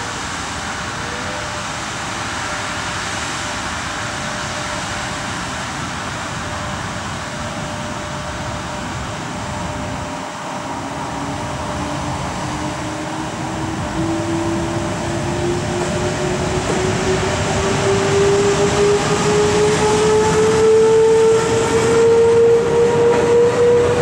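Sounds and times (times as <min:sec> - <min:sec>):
locomotive cooling blowers rushing: 0:00.0 - 0:24.0
locomotive whine rising in pitch: 0:00.0 - 0:24.0.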